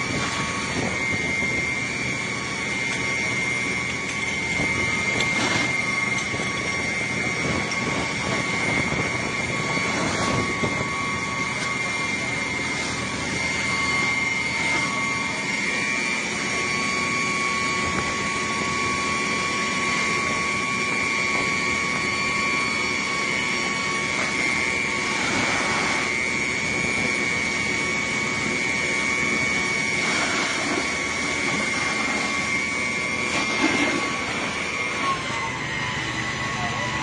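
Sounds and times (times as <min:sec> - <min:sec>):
fire engine pump droning: 0:00.0 - 0:37.0
high-pitched whine: 0:00.0 - 0:37.0
lower whine: 0:00.0 - 0:37.0.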